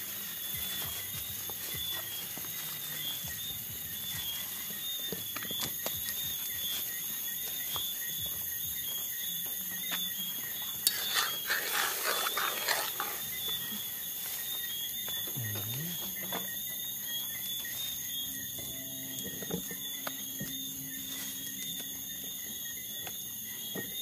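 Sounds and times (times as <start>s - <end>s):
insects chirping in a high trill: 0.0s - 24.0s.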